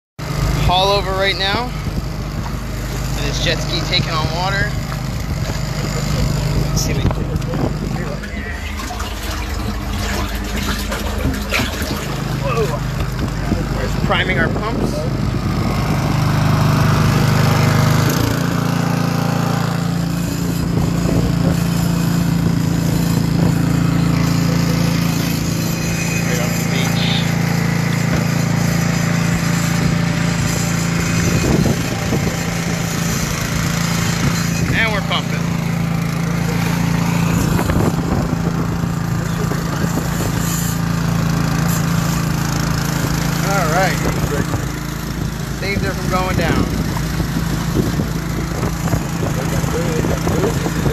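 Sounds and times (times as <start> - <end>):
small petrol engine running: 0.2 - 50.9
water gushing: 0.2 - 50.9.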